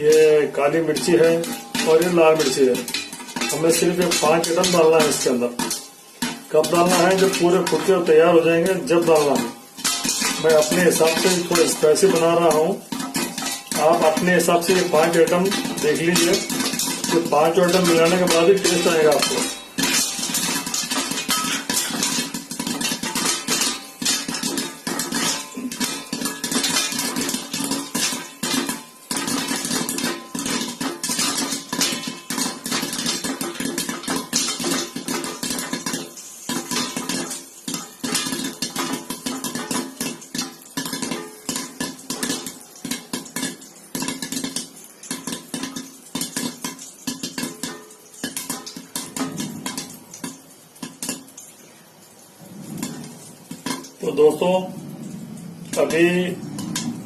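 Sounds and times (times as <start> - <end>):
popcorn popping in covered pot: 0.0 - 57.0.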